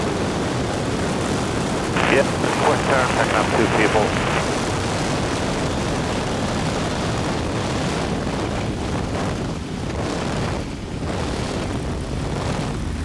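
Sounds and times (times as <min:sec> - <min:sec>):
wind rush on microphone: 0:00.0 - 0:13.0.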